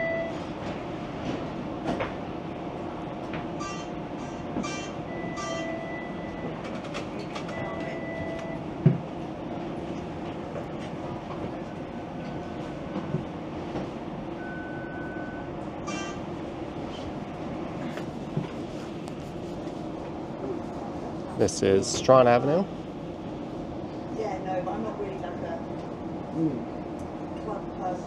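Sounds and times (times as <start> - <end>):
streetcar running rumble: 0.0 - 28.0.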